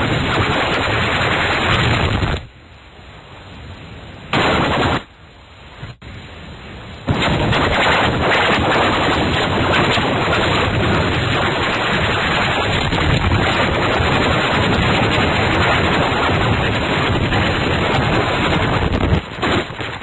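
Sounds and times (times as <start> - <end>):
harsh crackling noise: 0.0 - 2.5, 4.3 - 5.1, 7.0 - 20.0.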